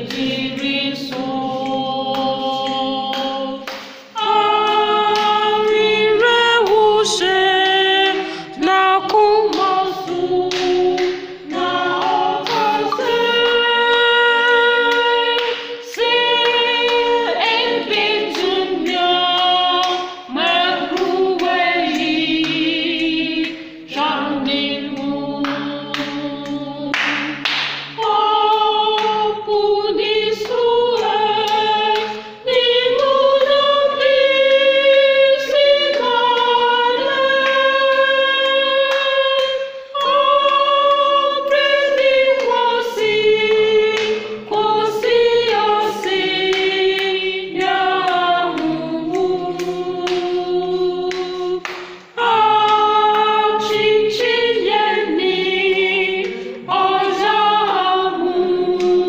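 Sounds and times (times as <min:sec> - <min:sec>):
choir singing a hymn: 0:00.0 - 0:59.0
sharp hand claps: 0:00.0 - 0:59.0.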